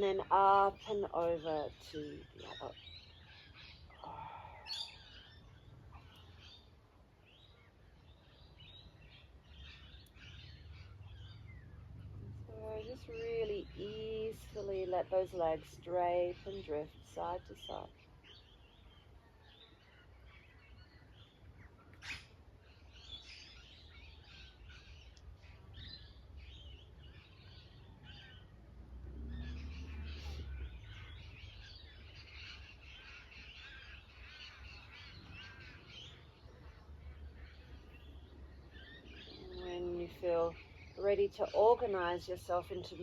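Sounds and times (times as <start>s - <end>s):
birds chirping and trilling: 0.0s - 43.0s.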